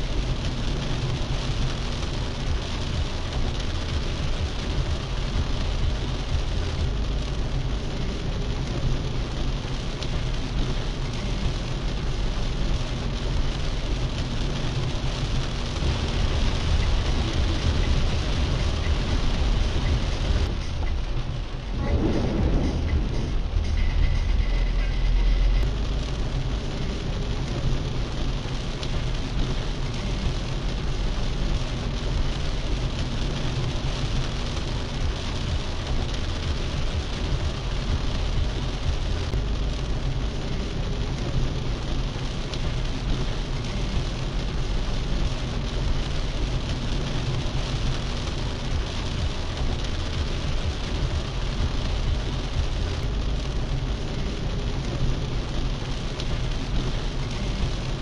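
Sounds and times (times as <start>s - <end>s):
heavy rain on car roof: 0.0s - 58.0s
tyres on wet road rumble: 0.0s - 58.0s.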